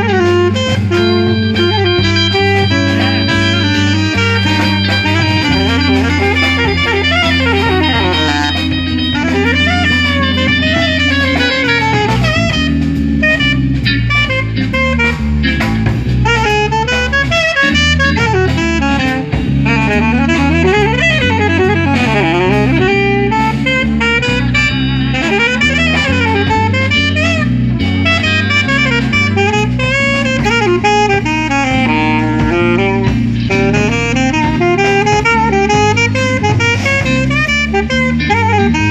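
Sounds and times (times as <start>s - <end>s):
drum kit: 0.0s - 38.9s
guitar: 0.0s - 38.9s
jazz horn solo: 0.0s - 38.9s
walking bass: 0.0s - 38.9s.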